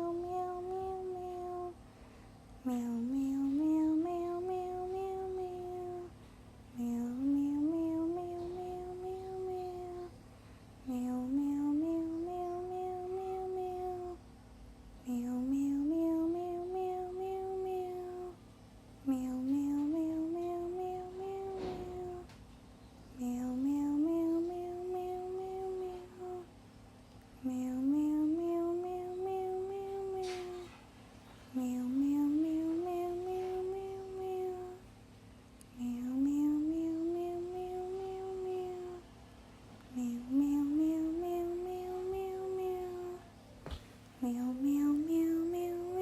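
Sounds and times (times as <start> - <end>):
person humming a slow tune: 0.0 - 1.8, 2.6 - 10.2, 10.8 - 14.2, 15.0 - 18.4, 19.0 - 22.3, 23.2 - 26.5, 27.4 - 30.8, 31.5 - 34.8, 35.6 - 39.1, 39.9 - 43.3, 44.2 - 46.0.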